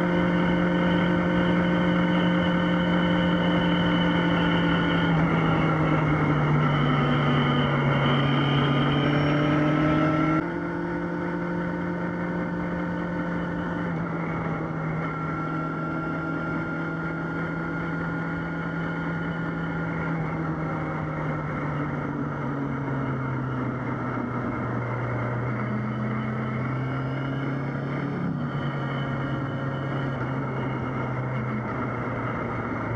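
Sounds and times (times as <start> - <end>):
motorcycle engine running: 0.0 - 32.9
wind and road noise: 0.0 - 32.9.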